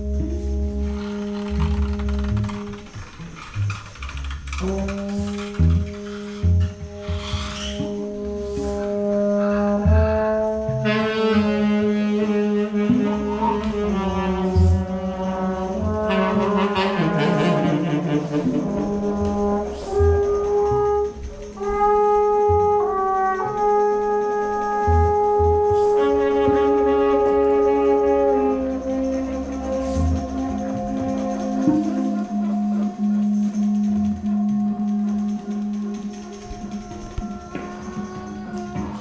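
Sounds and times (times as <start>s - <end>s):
long held instrumental notes: 0.0s - 39.0s
steady low drone: 0.0s - 39.0s.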